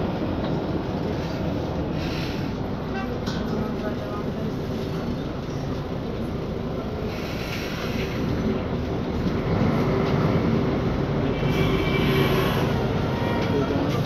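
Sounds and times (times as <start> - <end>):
bus diesel engine under load: 0.0 - 14.0.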